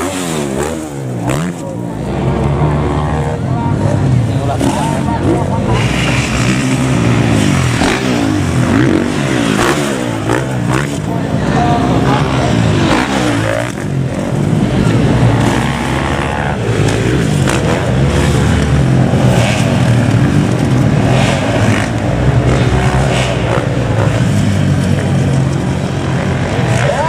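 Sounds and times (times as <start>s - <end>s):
motocross bike engines revving: 0.0s - 27.0s.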